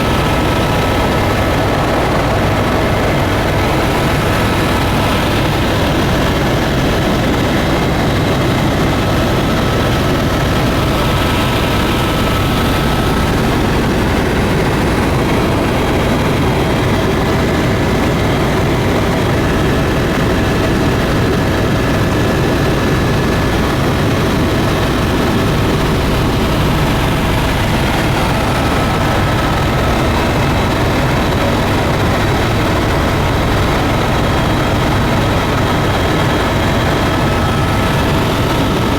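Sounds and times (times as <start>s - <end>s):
aircraft engines droning: 0.0s - 38.9s.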